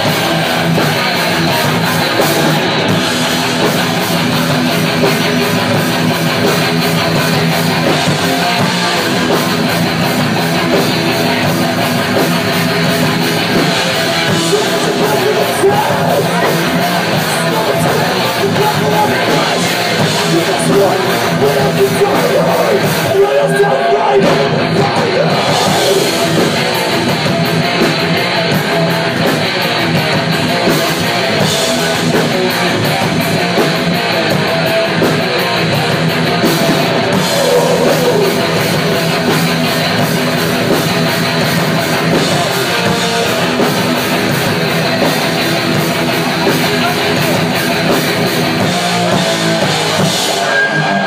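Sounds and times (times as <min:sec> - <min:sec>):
thrash band playing live: 0:00.0 - 0:51.0.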